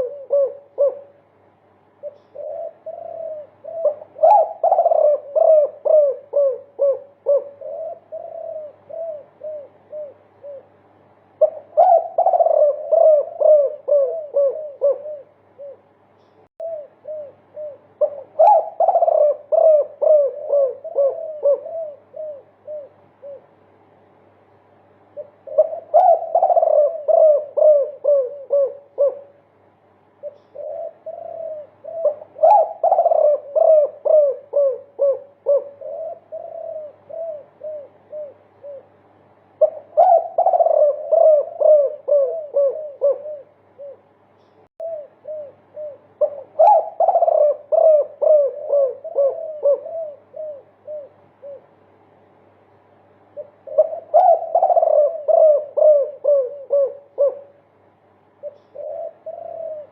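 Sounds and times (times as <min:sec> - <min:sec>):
doves cooing: 0:00.0 - 0:24.0, 0:25.0 - 0:59.9.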